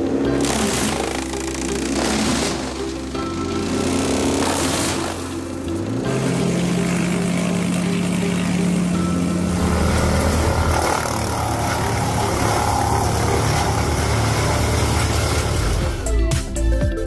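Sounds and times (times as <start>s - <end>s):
wood chipper engine running: 0.0s - 16.3s.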